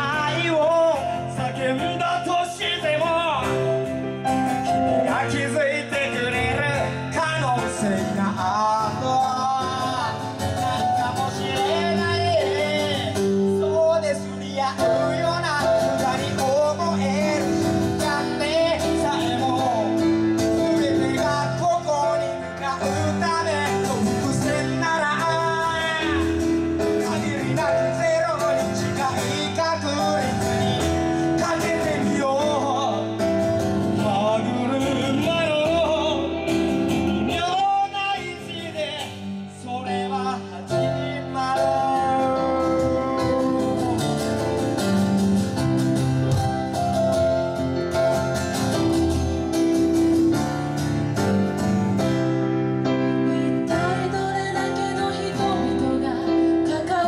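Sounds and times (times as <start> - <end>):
acoustic guitar and piano ballad: 0.0 - 57.0
person singing: 0.0 - 57.0.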